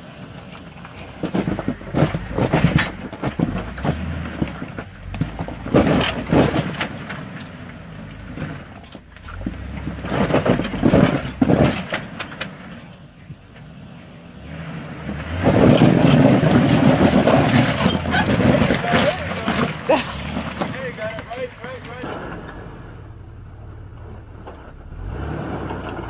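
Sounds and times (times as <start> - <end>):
truck engine revving: 0.0 - 26.0
tyres crunching on rock: 0.3 - 13.1, 15.1 - 26.0.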